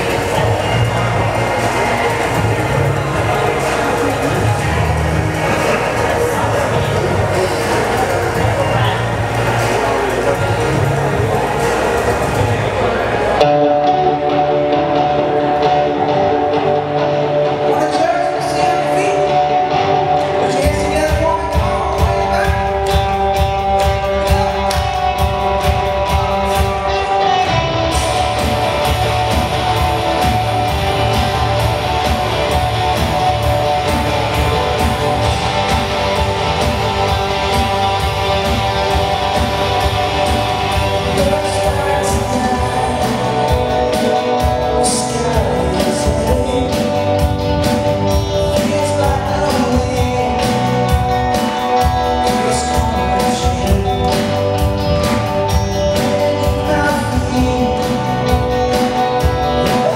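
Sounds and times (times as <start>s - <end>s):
live rock band playing: 0.0s - 59.9s
person singing: 0.0s - 59.9s.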